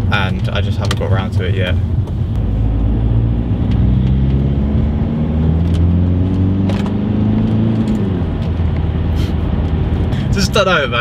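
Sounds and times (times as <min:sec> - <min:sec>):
diesel engine droning in car cabin: 0:00.0 - 0:11.0.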